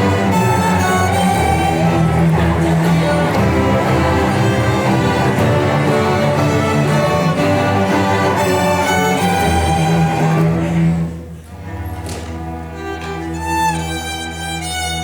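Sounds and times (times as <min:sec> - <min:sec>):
string orchestra playing sustained notes: 0:00.0 - 0:15.0.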